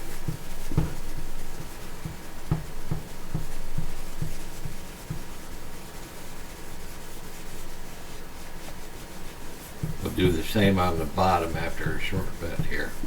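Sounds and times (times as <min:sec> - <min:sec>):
cloth rubbing a screen: 0:00.0 - 0:13.0.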